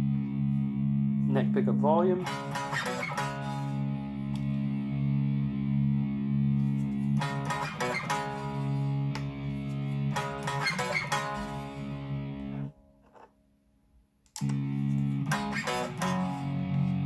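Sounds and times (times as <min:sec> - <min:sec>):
electric guitar chord strummed: 0:00.0 - 0:12.9, 0:14.4 - 0:17.0.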